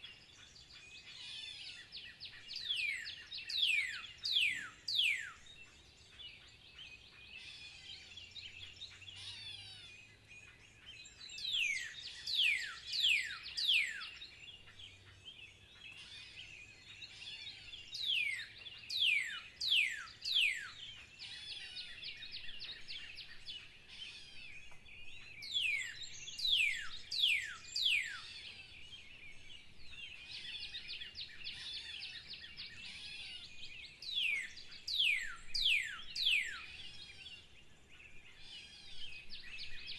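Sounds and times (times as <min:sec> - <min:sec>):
high twittering of birds: 0:00.0 - 0:39.9.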